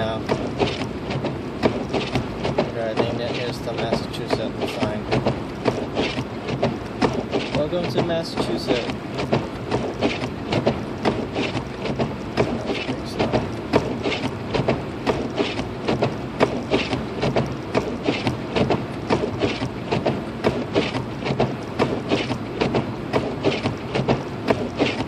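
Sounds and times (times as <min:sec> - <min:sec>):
road and engine hum: 0:00.0 - 0:25.0
windshield wipers chattering: 0:00.0 - 0:25.0
wiper squeak: 0:00.0 - 0:25.0.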